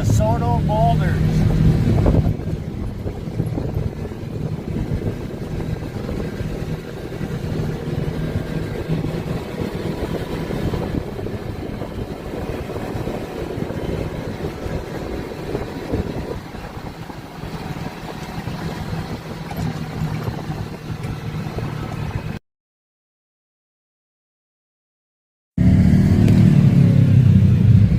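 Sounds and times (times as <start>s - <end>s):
off-road vehicle engine running: 0.0s - 22.4s, 25.6s - 27.9s.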